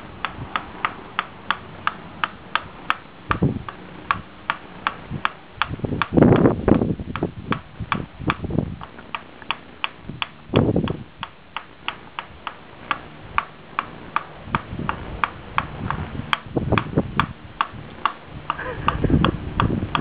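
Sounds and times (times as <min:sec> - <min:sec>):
tapping on wooden block: 0:00.2 - 0:20.0.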